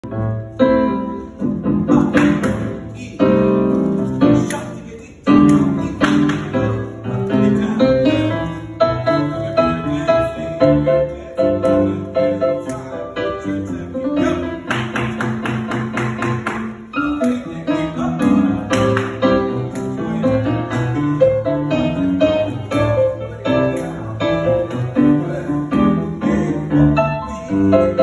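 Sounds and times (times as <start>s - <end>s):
piano chords: 0.0s - 28.0s.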